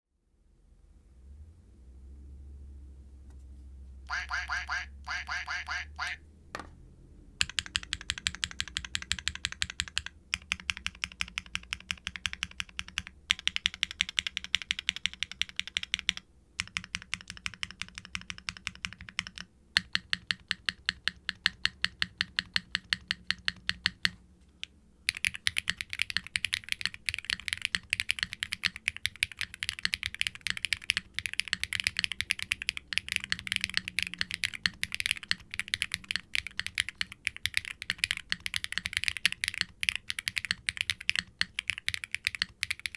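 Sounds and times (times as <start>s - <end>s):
mechanical keyboard typing: 7.4s - 42.9s.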